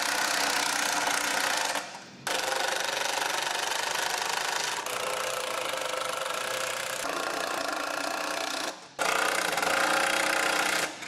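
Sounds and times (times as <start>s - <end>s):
impact wrench hammering: 0.0s - 11.0s.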